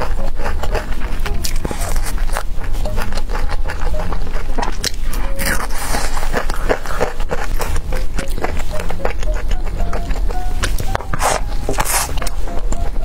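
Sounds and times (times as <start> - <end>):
fried chicken crunching when chewed: 0.0 - 13.0.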